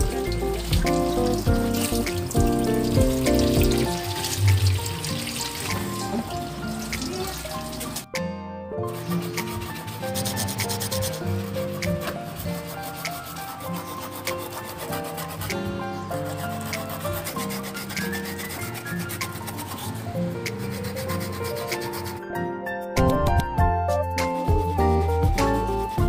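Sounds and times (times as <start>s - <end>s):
background music: 0.0s - 26.0s.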